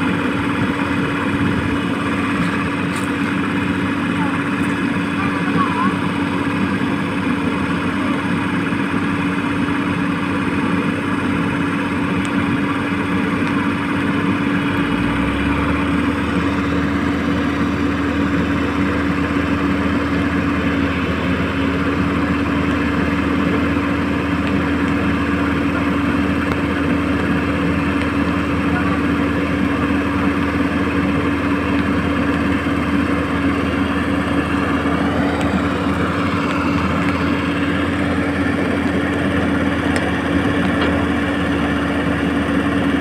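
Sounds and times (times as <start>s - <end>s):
deeper hum: 0.0s - 43.0s
electric motors humming: 0.0s - 43.0s.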